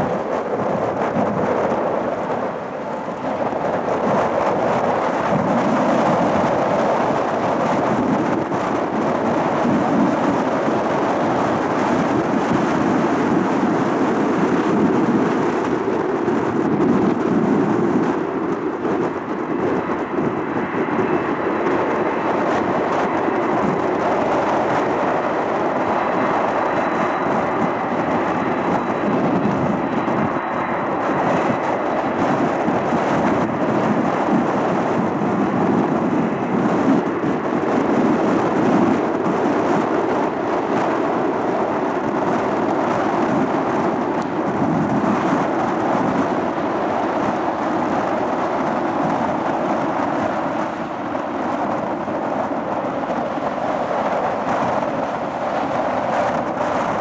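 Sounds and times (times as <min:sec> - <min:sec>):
faint high engine whine: 0:00.0 - 0:57.0
jet engines rumbling hiss: 0:00.0 - 0:57.0.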